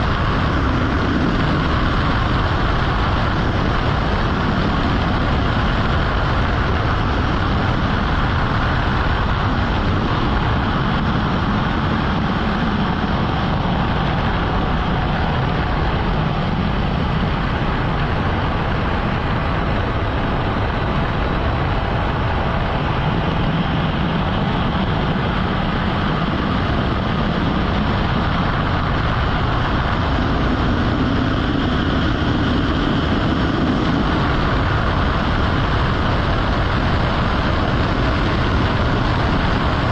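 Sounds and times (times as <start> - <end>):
jet engine noise: 0.0 - 39.9.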